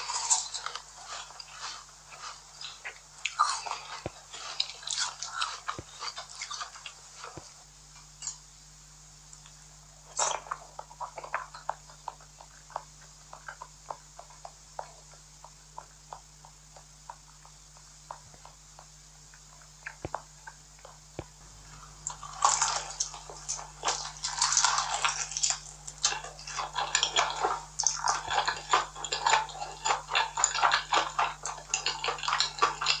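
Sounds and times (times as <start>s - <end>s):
wet mouth clicks while chewing: 0.0s - 8.5s, 9.3s - 33.0s
crunching while eating: 0.0s - 33.0s.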